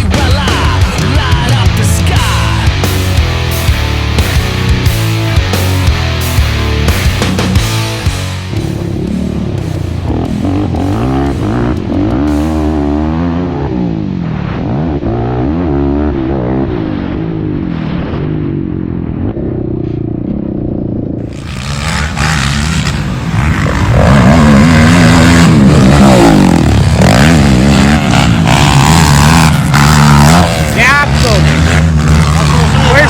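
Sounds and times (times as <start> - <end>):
quad engines revving: 0.0 - 17.7, 21.1 - 33.0.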